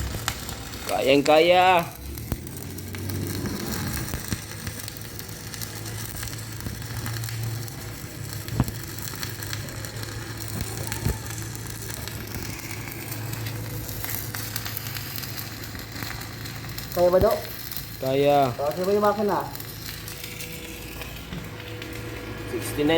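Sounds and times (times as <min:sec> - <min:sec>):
sharp welding pops: 0:00.0 - 0:22.9
welding arc crackling: 0:00.0 - 0:22.9.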